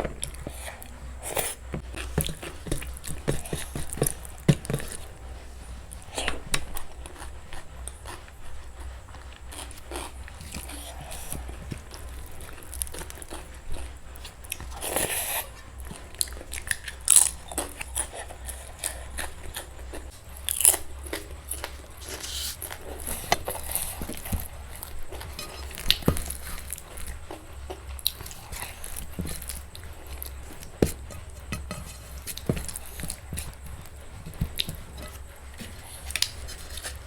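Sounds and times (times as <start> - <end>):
person chewing crunchy food: 0.0 - 37.0.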